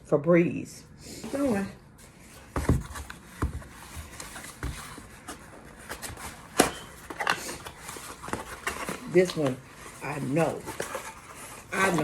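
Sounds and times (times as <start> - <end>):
packaging rustling: 2.0 - 12.0.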